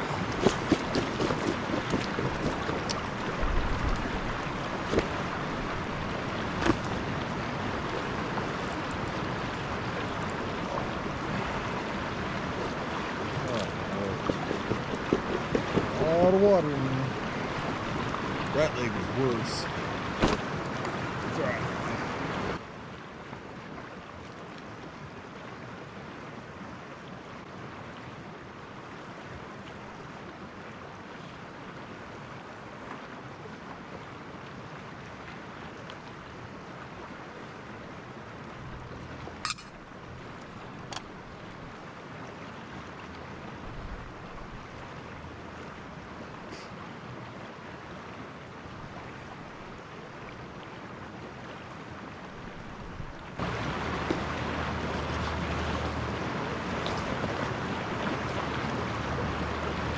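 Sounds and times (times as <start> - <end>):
fast-flowing stream: 0.0 - 59.9.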